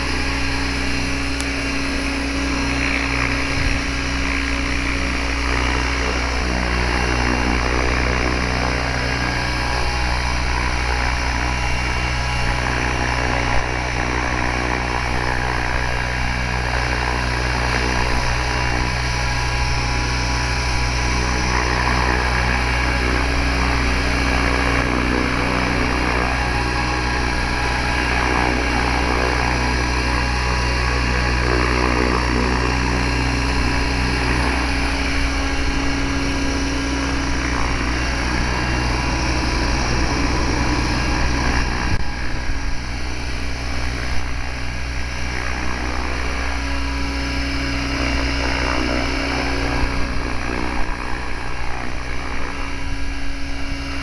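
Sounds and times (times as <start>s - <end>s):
rc helicopter motor whine: 0.0s - 54.0s
rotor blades whirring: 0.0s - 54.0s.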